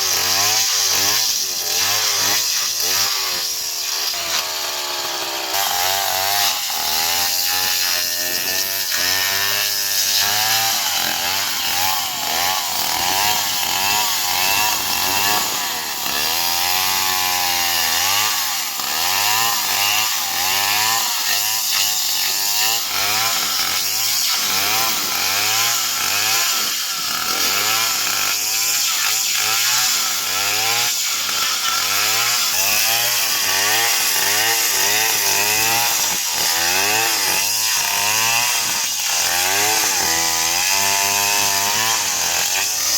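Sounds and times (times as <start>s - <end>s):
chainsaw cutting tree trunk: 0.0s - 42.9s.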